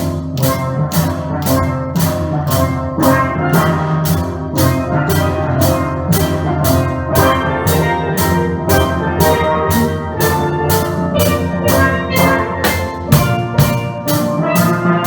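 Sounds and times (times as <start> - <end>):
drum kit steady beat: 0.0 - 15.0
steel pans playing melody: 0.0 - 15.0.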